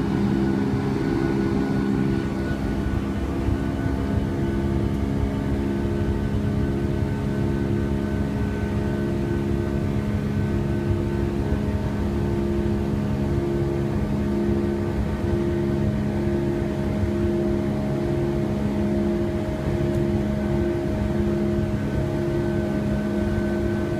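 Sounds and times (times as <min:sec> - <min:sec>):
airliner cabin drone: 0:00.0 - 0:23.9.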